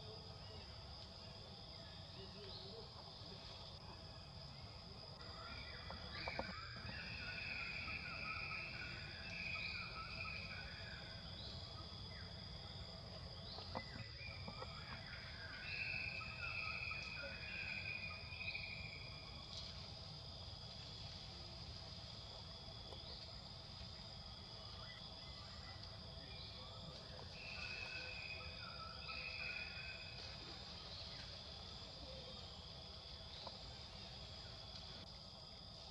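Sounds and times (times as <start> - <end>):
insects chirping: 0.0 - 35.9.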